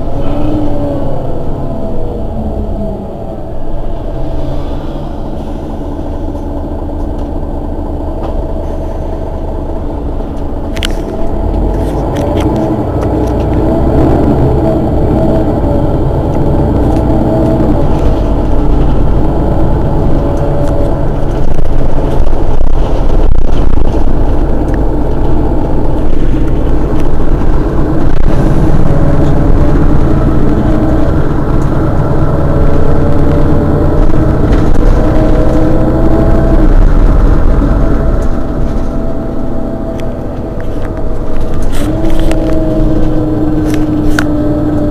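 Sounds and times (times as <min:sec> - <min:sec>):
bus diesel engine idling: 0:00.0 - 0:44.9.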